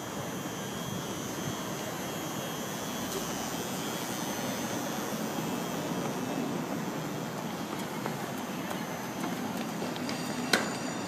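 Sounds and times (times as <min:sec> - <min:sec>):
city background din: 0:00.0 - 0:11.0.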